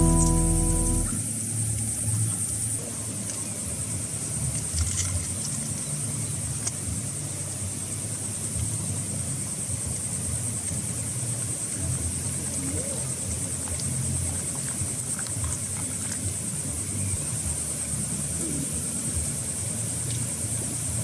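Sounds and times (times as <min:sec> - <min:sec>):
low uneven rumble: 0:00.0 - 0:01.2, 0:01.8 - 0:21.0
insects chirring: 0:00.0 - 0:02.9, 0:03.8 - 0:21.0.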